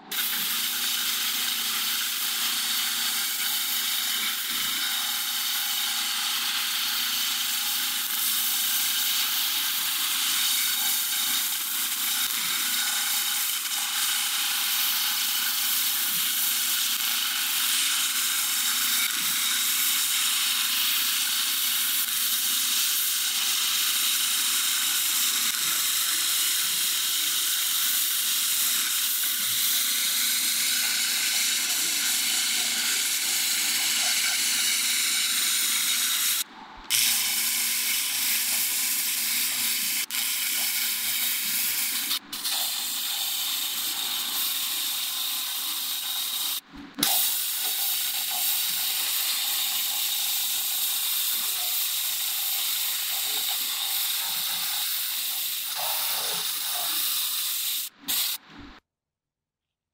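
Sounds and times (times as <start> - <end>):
laser cleaner hissing: 0.0 - 58.4.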